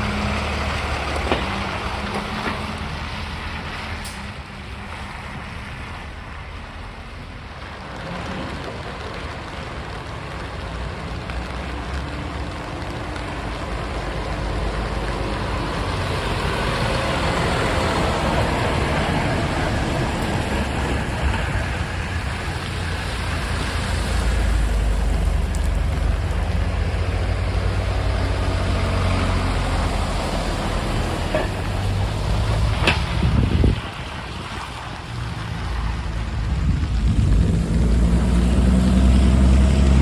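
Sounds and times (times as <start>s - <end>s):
rain: 0.0s - 40.0s
road noise: 0.0s - 40.0s
truck engine running: 5.5s - 40.0s.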